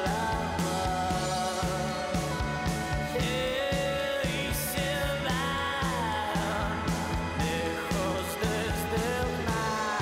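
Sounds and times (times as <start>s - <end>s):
soundtrack music with low beat: 0.0s - 10.0s.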